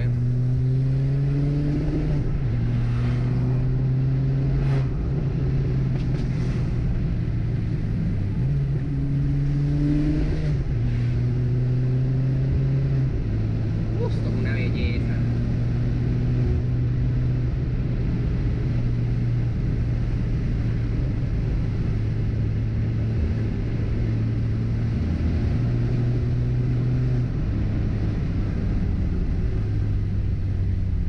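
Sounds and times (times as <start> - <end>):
car engine droning: 0.0 - 31.0
road noise: 0.0 - 31.0.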